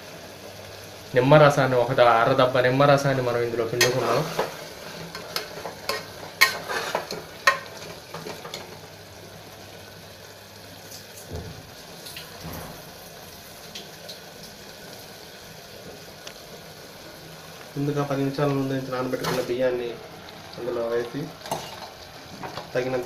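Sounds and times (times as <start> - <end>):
food sizzling in a pot: 0.0 - 23.0.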